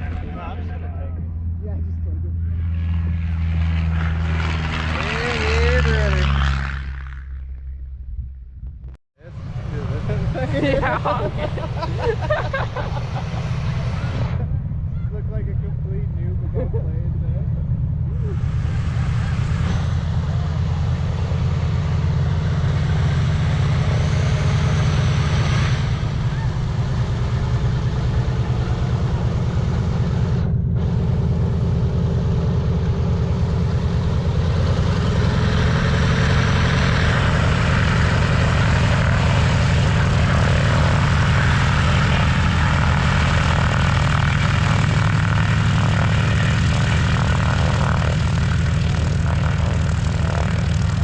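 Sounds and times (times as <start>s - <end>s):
propeller plane engines droning: 0.0s - 51.0s.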